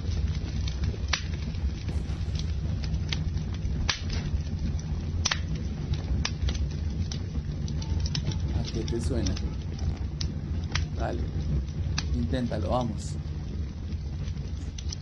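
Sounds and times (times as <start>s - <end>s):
fire popping and cracking: 0.0s - 15.0s
low rumble of burning: 0.0s - 15.0s.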